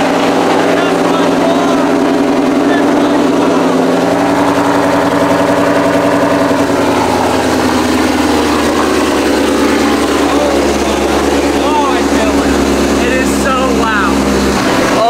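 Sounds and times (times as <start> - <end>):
car engine idling loudly: 0.0 - 15.0.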